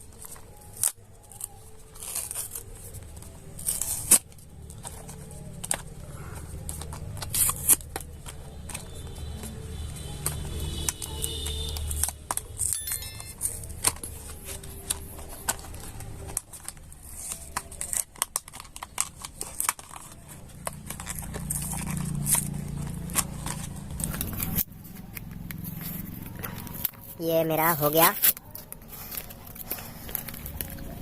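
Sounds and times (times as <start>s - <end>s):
plastic packaging crackling: 0.0s - 12.7s, 13.3s - 31.0s.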